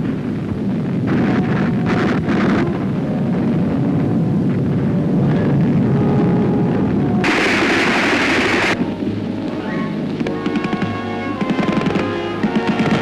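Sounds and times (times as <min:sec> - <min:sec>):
explosions and gunfire rumble: 0:00.0 - 0:13.0.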